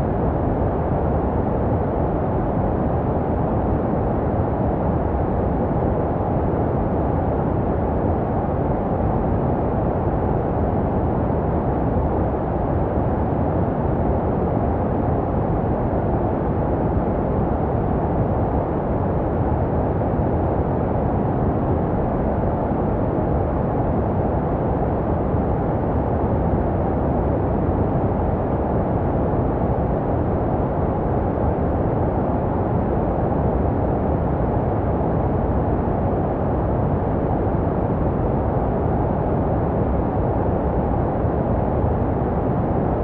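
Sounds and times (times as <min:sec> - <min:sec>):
muffled low white noise hiss: 0:00.0 - 0:43.0.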